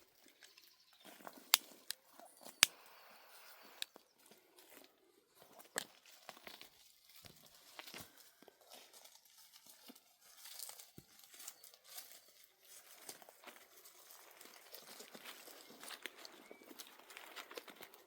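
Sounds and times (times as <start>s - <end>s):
faint rustling and crackling: 0.0s - 18.0s.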